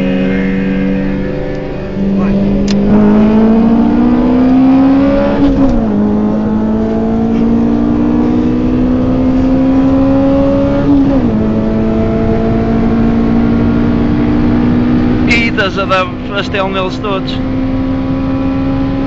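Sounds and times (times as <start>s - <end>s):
car engine revving high with upshifts: 0.0s - 19.0s.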